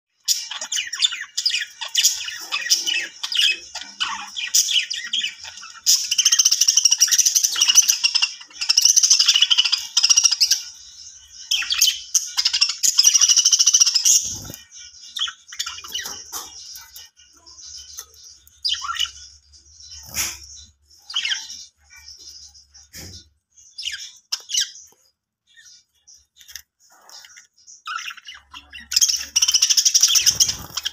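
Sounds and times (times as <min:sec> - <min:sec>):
budgies chirping and warbling: 0:00.1 - 0:30.9.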